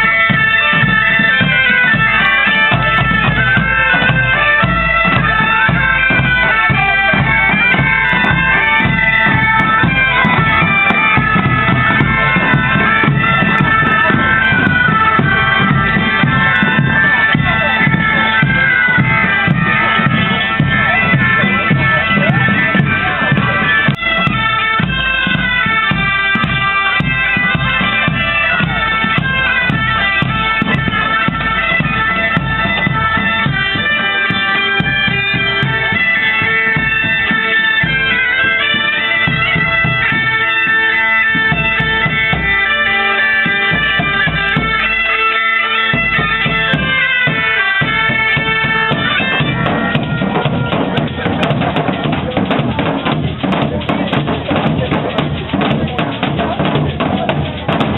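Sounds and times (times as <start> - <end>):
bagpipes playing a lively tune: 0.0 - 57.9
large drums beating: 0.0 - 57.9.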